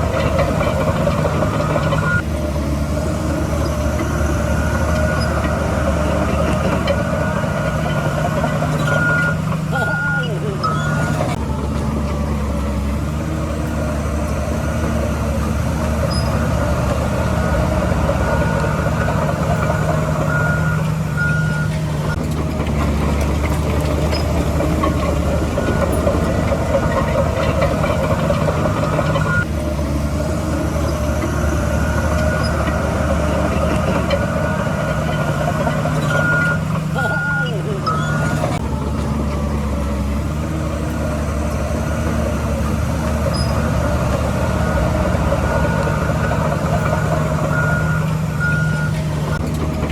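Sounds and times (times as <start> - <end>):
reversing alarm beeping: 0.0 - 2.3, 3.2 - 11.8, 14.3 - 22.3, 23.9 - 29.5, 30.4 - 39.2, 40.7 - 49.6
heavy diesel machinery running: 0.0 - 49.9.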